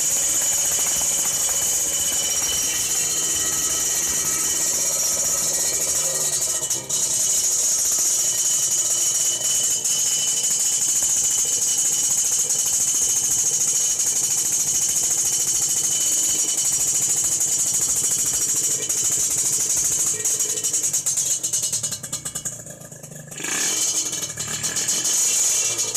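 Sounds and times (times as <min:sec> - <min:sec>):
two-stroke motorcycle engine running: 0:00.0 - 0:25.9.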